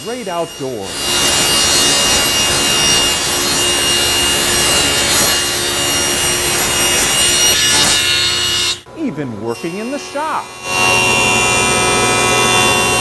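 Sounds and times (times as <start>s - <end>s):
power tool cutting wood: 0.0s - 13.0s.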